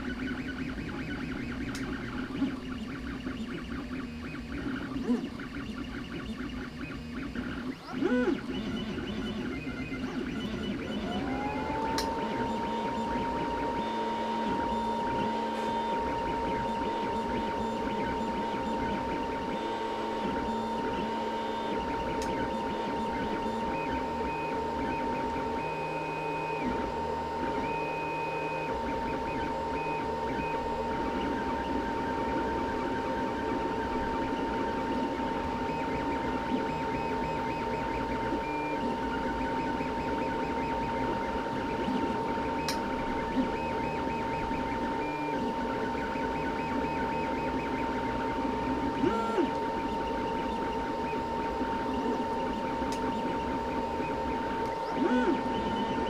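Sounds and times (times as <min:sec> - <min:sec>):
stepper motors pitched tones: 0:00.0 - 0:56.0.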